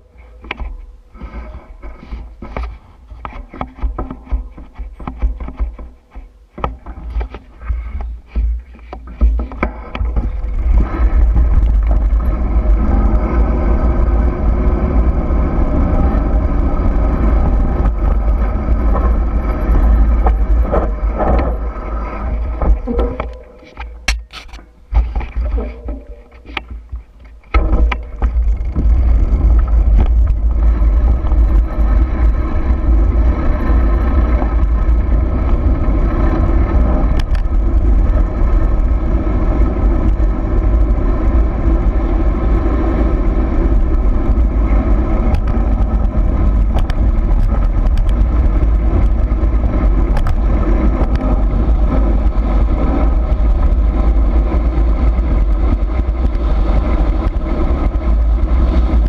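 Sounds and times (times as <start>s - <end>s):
bike clicks and rattles: 0.0s - 59.0s
wind buffeting microphone: 0.0s - 59.0s.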